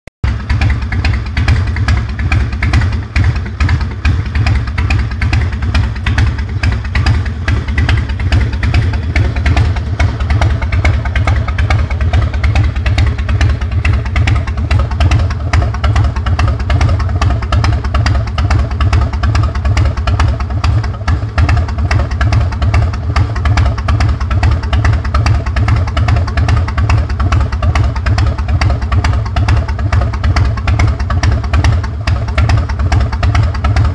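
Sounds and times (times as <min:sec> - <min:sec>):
motorcycle engine running steadily: 0:00.2 - 0:33.9.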